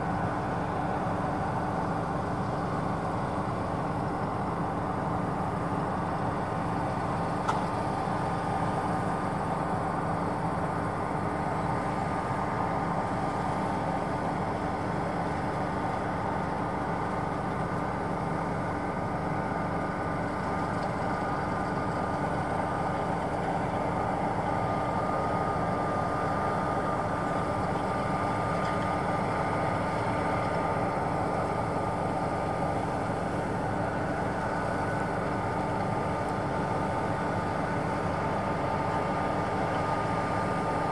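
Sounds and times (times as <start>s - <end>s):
combine harvester drone: 0.0s - 40.9s
thin steady whine: 0.0s - 40.9s.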